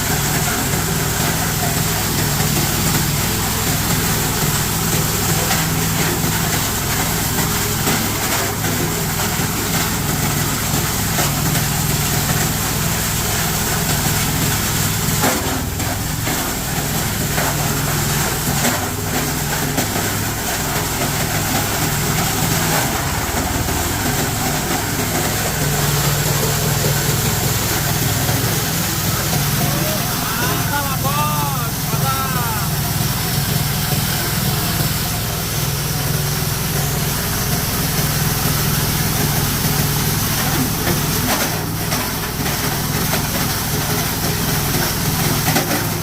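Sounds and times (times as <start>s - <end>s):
plastic crusher machine drone: 0.0s - 46.0s.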